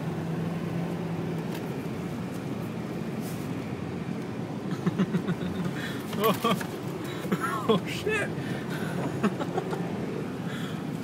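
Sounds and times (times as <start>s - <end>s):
car engine hum: 0.0s - 11.0s
road and tyre noise: 0.0s - 11.0s.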